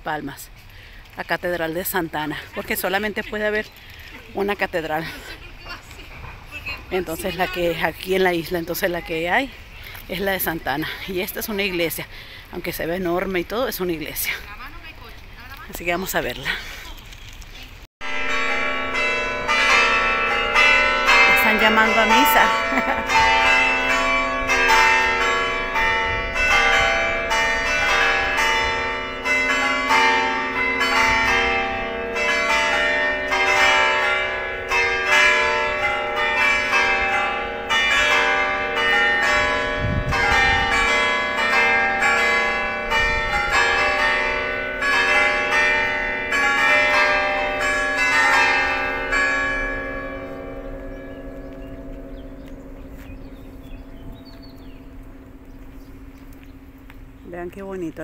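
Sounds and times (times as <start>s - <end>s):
church bells pealing: 1.8s - 9.5s, 18.0s - 58.0s.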